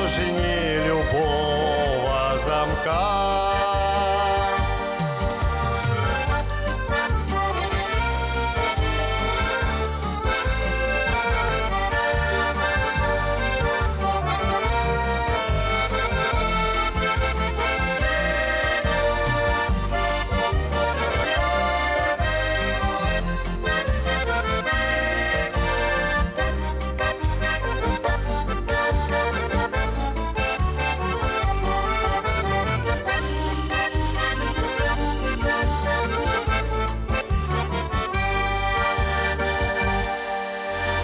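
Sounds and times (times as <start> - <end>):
accordion folk melody: 0.0 - 41.0.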